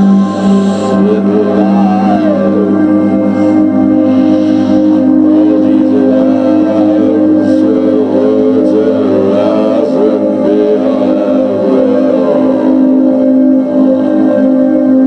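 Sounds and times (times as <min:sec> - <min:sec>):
gliding melody line: 0:00.0 - 0:15.0
held drone: 0:00.0 - 0:15.0.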